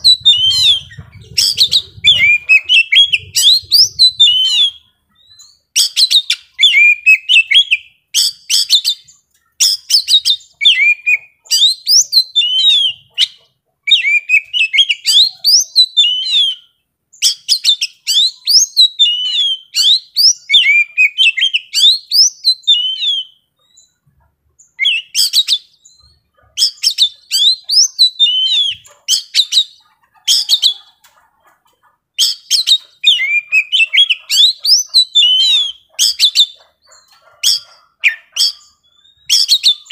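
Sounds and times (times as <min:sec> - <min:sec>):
bird singing whistles and chatter: 0:00.0 - 0:24.0, 0:24.6 - 0:31.2, 0:32.1 - 0:39.9.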